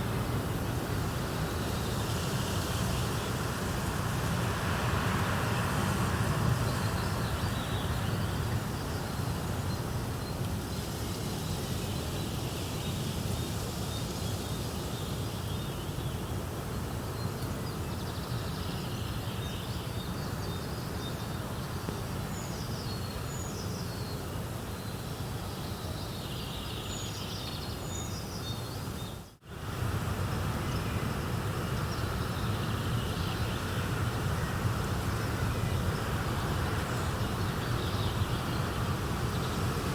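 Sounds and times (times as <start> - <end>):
rushing nature ambience: 0.0 - 39.9.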